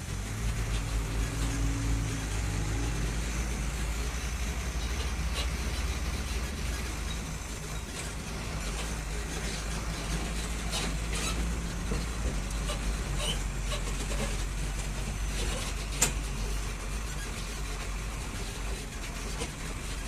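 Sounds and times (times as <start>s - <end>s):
road noise: 0.0s - 20.0s
truck diesel engine humming: 0.0s - 20.0s.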